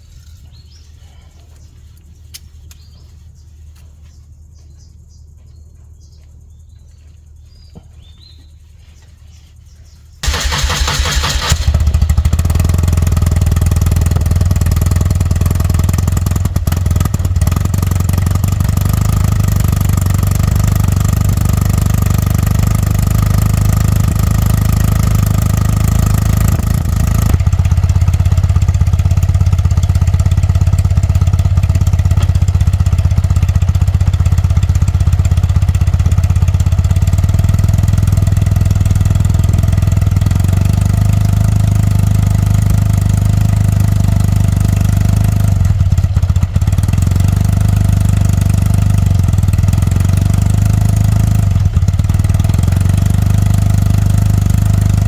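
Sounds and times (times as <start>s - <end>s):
motorcycle engine running: 10.2s - 55.0s.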